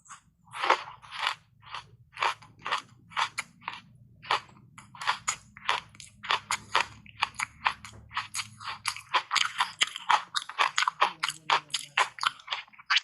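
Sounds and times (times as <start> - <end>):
crunching and chewing ice: 0.0 - 13.0.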